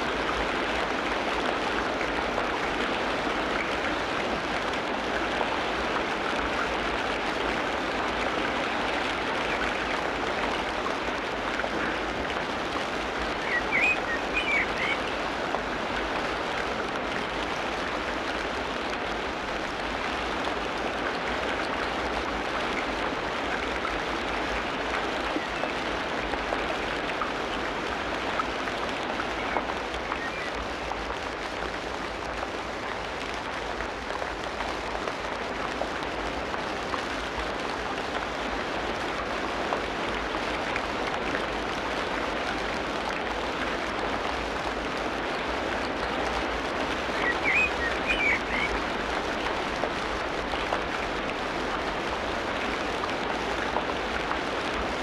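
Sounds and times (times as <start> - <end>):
steady rainfall hiss: 0.0 - 55.0.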